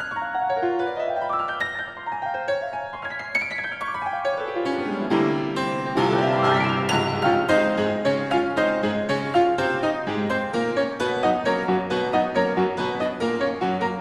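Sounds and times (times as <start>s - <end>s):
grand piano played fast: 0.0s - 14.0s.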